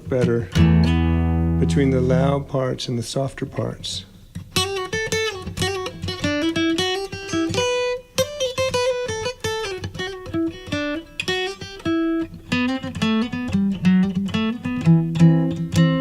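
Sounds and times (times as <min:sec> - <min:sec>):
acoustic guitar: 0:00.0 - 0:02.6, 0:04.2 - 0:16.0.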